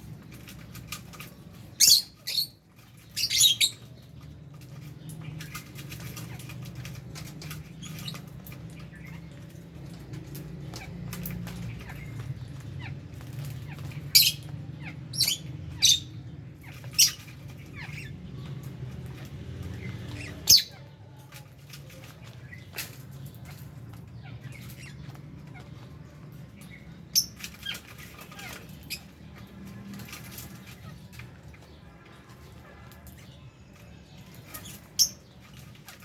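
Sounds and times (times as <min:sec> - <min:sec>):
lovebirds chirping: 0:00.0 - 0:36.0.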